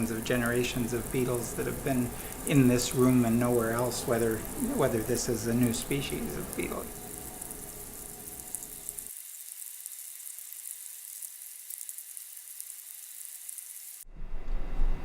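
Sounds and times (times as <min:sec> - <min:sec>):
dry high crackling hiss: 0:00.0 - 0:14.1.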